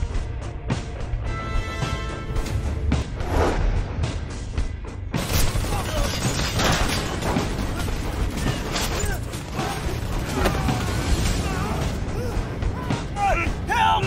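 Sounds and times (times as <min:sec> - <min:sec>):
film music: 0:00.0 - 0:14.0.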